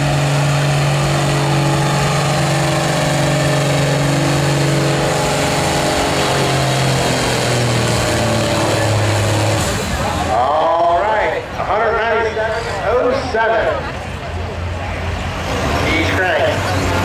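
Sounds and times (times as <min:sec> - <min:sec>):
tractor engine at high speed: 0:00.0 - 0:17.0.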